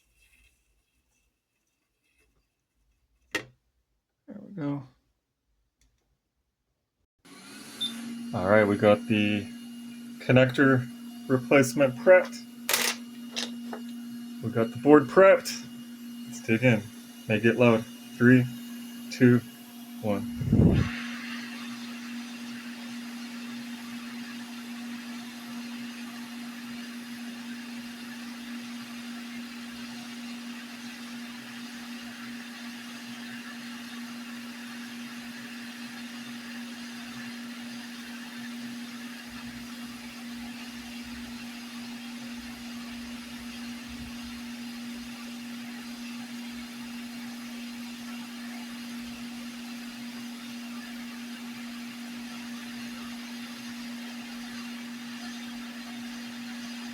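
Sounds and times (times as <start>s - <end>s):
hot-air blower whirring: 7.3s - 56.9s.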